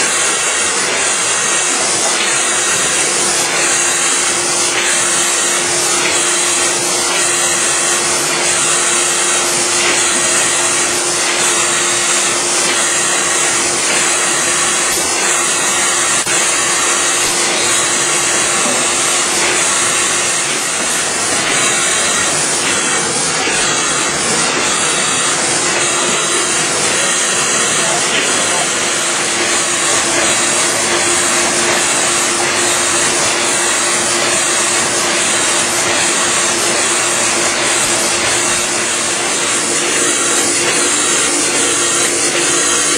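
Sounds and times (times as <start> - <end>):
printing machine running: 0.0 - 42.9.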